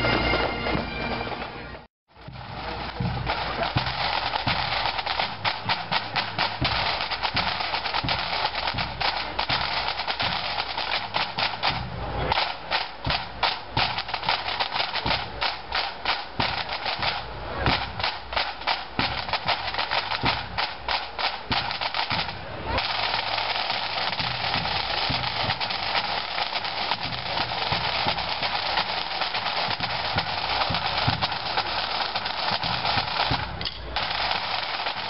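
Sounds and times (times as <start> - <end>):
snare drums rolling: 0.0 - 35.0.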